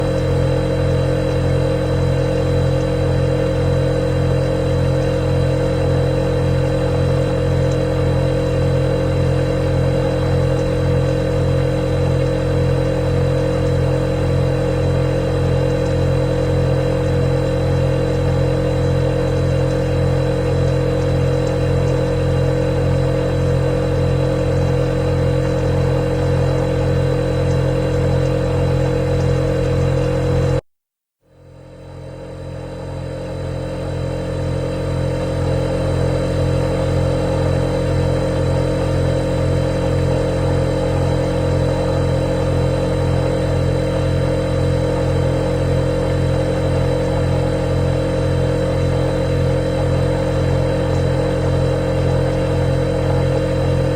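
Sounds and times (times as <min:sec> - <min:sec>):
refrigerator compressor hum: 0:00.0 - 0:30.6, 0:31.3 - 0:53.9.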